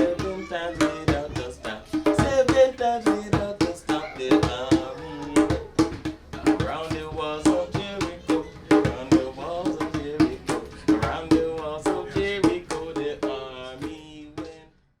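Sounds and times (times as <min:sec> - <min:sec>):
hand drums: 0:00.0 - 0:14.6
person singing: 0:00.0 - 0:14.7.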